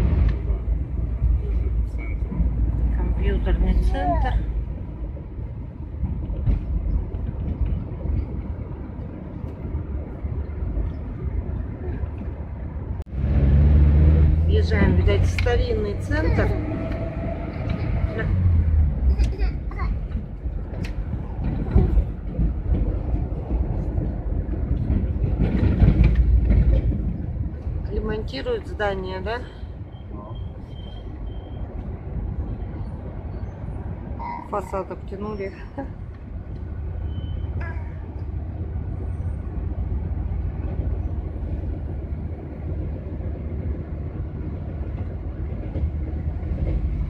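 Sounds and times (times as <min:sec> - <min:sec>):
van engine and road rumble: 0:00.0 - 0:47.0.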